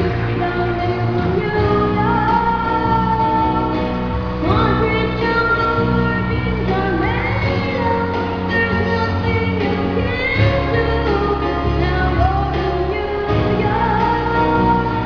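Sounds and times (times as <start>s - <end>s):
girl singing a pop song: 0.0s - 15.0s.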